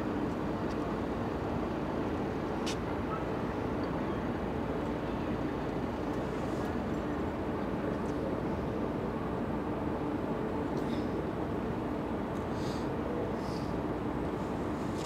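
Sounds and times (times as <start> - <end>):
faint continuous hum: 0.0 - 15.0.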